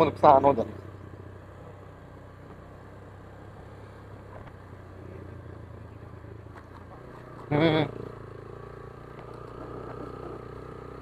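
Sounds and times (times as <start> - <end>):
motorcycle engine cruising: 0.0 - 11.0
road noise: 0.0 - 11.0.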